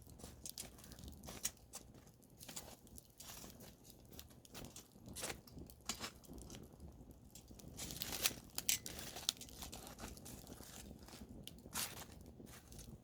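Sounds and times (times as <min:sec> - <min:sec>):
campfire wood crackling: 0:00.0 - 0:13.0.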